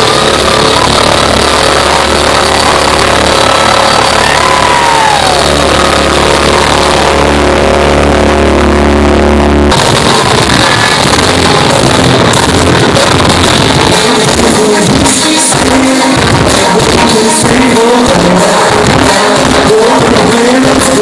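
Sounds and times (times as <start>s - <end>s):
loud distorted rock band: 0.0s - 21.0s.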